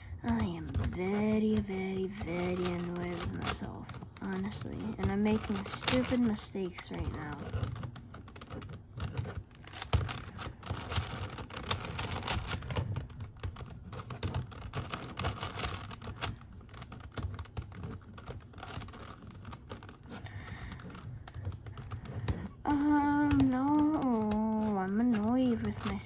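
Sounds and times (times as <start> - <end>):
plastic puzzle clicking and clacking: 0.0 - 26.0.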